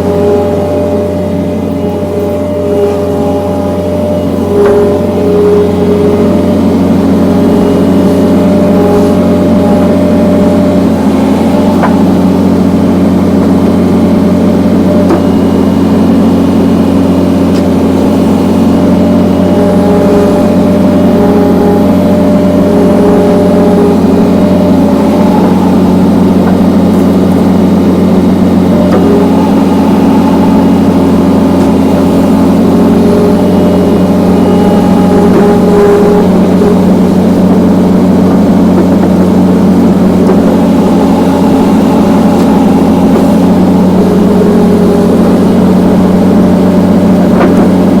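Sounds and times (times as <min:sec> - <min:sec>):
higher machine tone: 0:00.0 - 0:48.0
skid steer engine running: 0:00.0 - 0:48.0.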